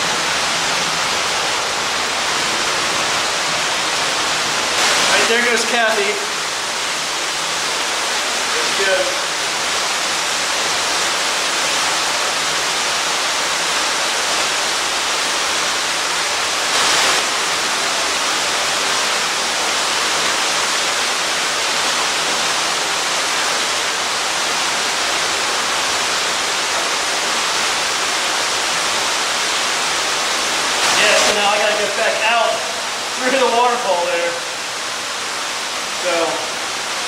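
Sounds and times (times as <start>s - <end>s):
waterfall roar: 0.0s - 37.0s.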